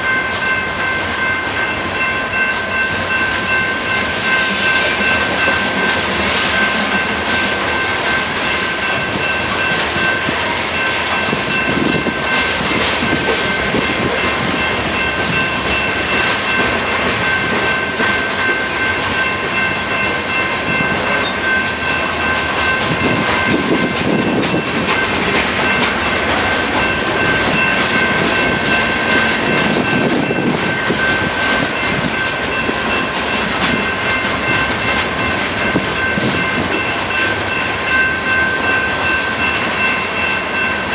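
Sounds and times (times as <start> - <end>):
freight train wheels rumbling: 0.0 - 40.9
high-pitched ringing: 0.0 - 40.9.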